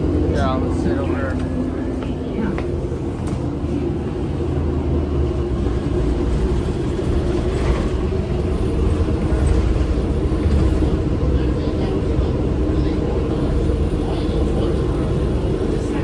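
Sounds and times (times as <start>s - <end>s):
bus drivetrain rumble: 0.0s - 16.0s.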